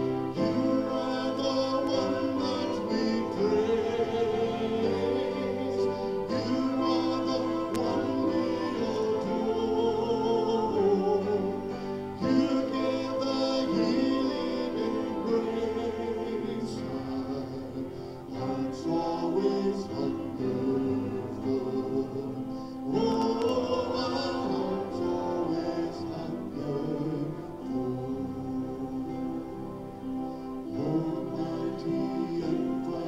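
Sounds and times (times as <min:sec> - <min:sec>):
church worship song with singing: 0:00.0 - 0:33.0.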